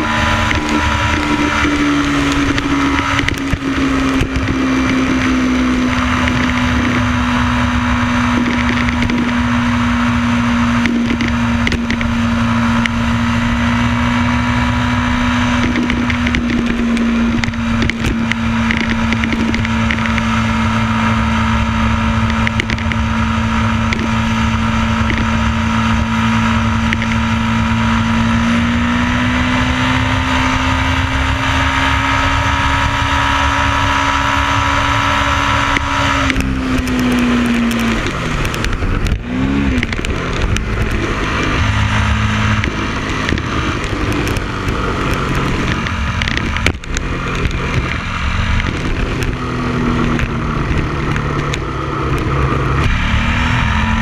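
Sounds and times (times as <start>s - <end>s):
motorcycle engine: 0.0s - 54.0s
rushing wind: 0.0s - 54.0s.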